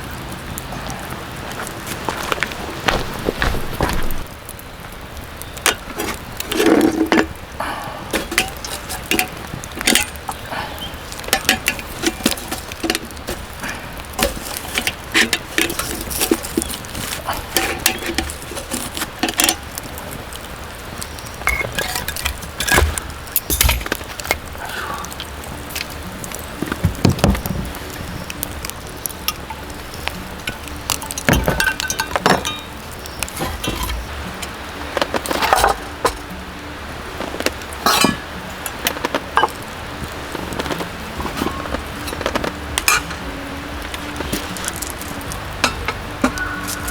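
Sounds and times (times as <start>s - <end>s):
small hard objects clinking: 0.0s - 46.9s
steady background hiss: 0.0s - 46.9s.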